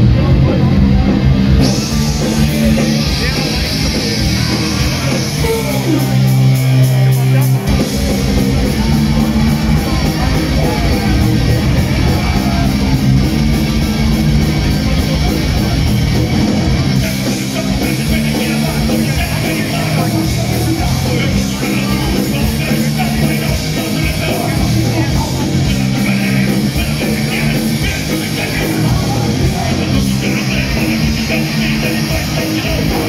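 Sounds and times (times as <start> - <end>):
live punk rock band: 0.0 - 33.0.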